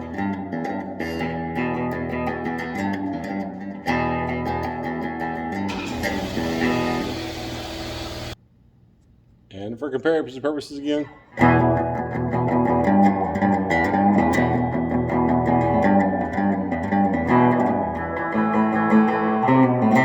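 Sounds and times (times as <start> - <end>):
electric guitar playing: 0.0 - 8.4, 11.4 - 20.0.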